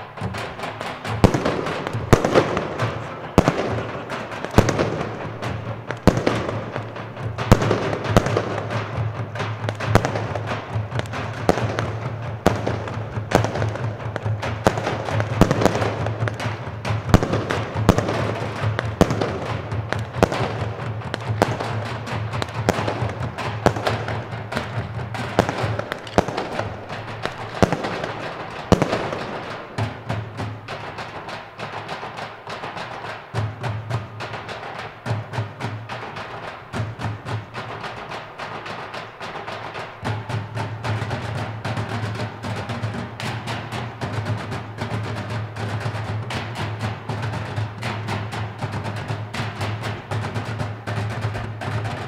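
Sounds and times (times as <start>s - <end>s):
drumming: 0.0s - 52.0s
fireworks cracking and popping: 0.0s - 52.0s.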